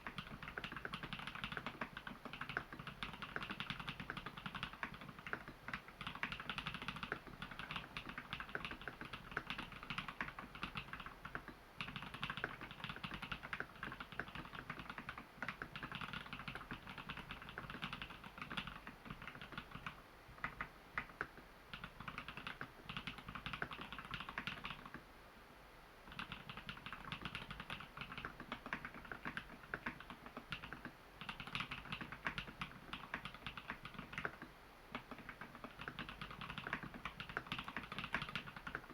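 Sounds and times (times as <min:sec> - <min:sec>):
mechanical keyboard typing: 0:00.0 - 0:25.0, 0:26.1 - 0:38.9.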